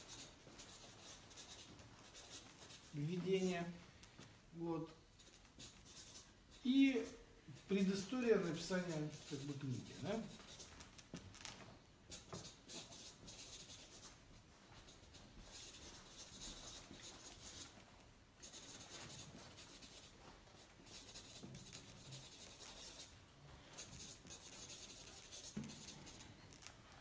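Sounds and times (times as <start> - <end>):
pen scratching on paper: 0.0 - 3.5, 5.2 - 10.8, 12.1 - 14.1, 14.8 - 17.7, 18.4 - 23.2, 23.8 - 26.7.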